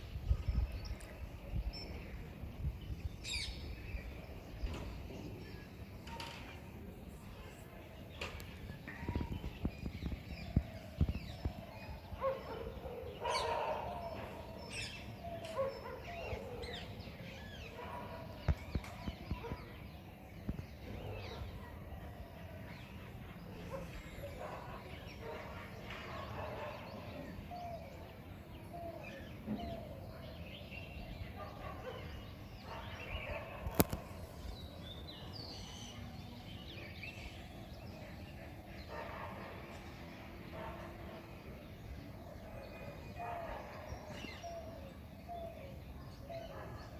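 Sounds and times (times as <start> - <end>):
birds chirping: 0.1 - 46.9.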